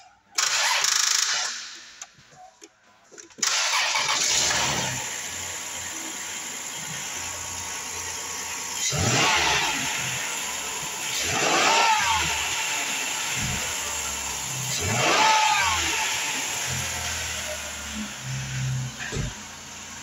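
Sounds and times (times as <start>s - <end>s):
car engine starting and idling: 0.0s - 20.0s.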